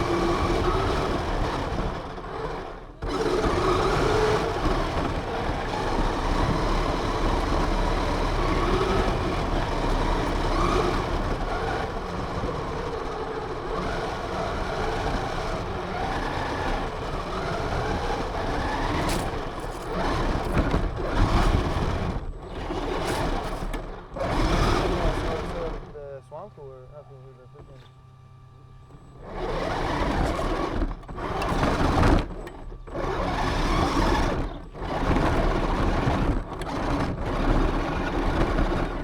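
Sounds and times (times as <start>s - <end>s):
ground and tyre rumble: 0.0s - 39.0s
rc car motor whine: 0.0s - 39.0s.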